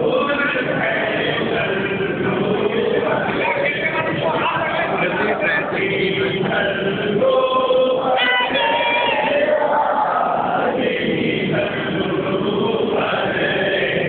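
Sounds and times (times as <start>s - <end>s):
group singing devotional chant: 0.0s - 14.0s.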